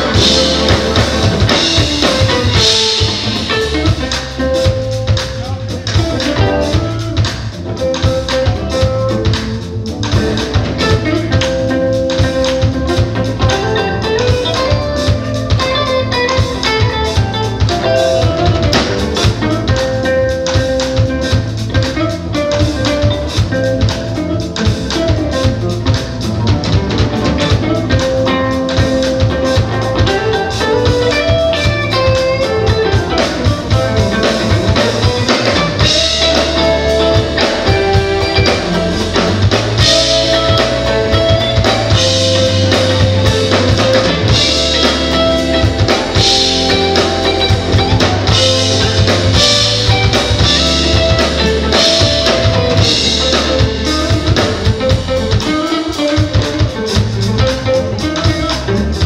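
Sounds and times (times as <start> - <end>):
bass: 0.0 - 59.0
drum kit: 0.0 - 59.0
electric guitar melody: 0.0 - 59.0.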